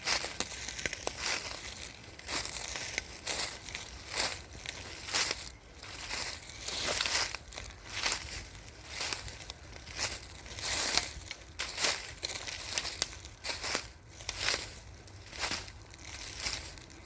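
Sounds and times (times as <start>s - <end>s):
footsteps in dry leaves: 0.0s - 17.0s.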